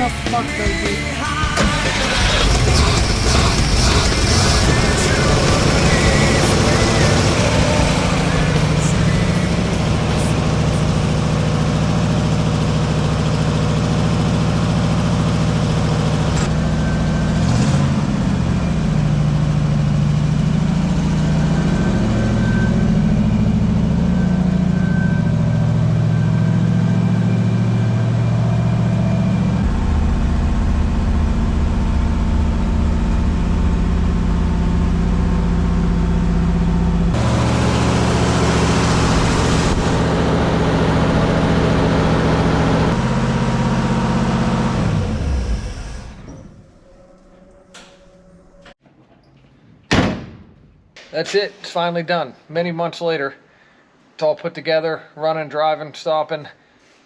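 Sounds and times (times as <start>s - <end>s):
truck engine running: 0.0s - 48.8s.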